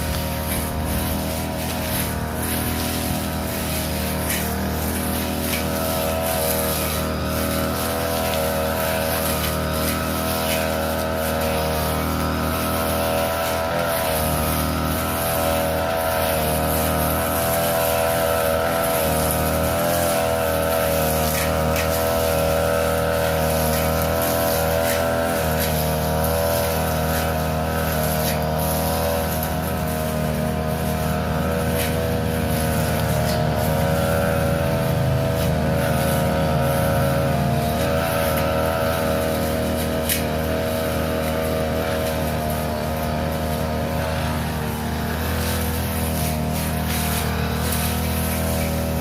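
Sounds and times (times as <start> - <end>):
lawn mower engine running: 0.0 - 49.0.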